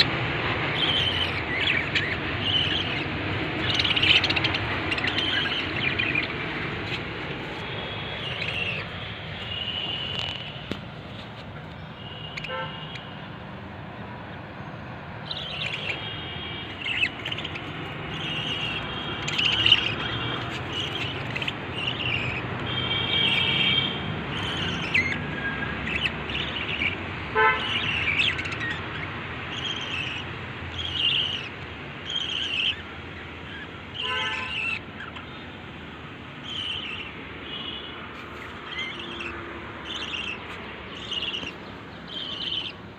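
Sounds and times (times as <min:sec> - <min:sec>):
lovebirds chirping: 0:00.0 - 0:13.3, 0:14.6 - 0:42.9.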